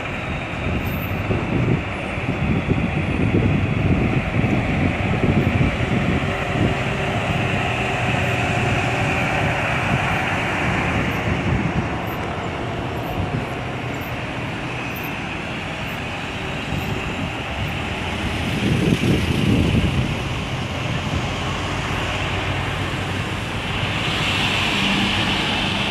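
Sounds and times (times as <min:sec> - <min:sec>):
heavy vehicles passing: 0:00.0 - 0:25.9.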